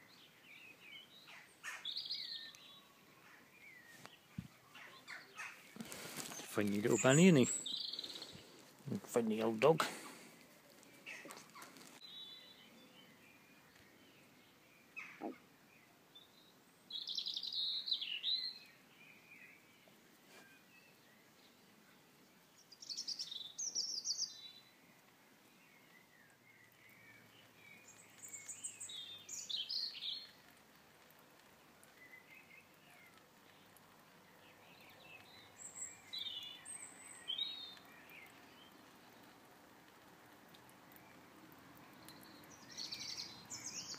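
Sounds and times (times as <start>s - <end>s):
outdoor background noise: 0.0s - 43.9s
songbirds chirping: 0.0s - 43.9s.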